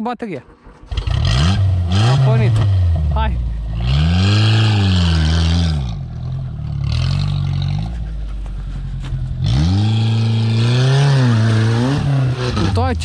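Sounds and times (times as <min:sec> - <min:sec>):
car engine revving: 0:00.4 - 0:13.0.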